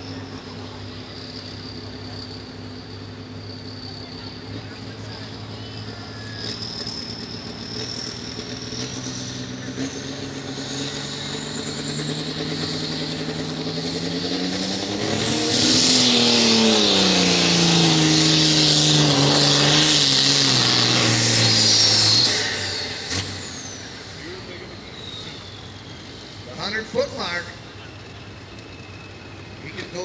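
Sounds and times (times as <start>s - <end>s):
diesel tractor engine at full throttle: 0.0s - 30.0s.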